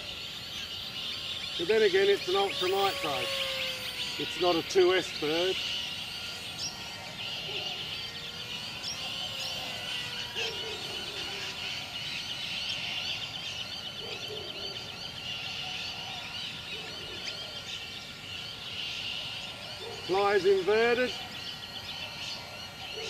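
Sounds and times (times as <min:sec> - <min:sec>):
lower longer bird calls: 0:00.0 - 0:23.0
small birds chirping: 0:00.0 - 0:23.0.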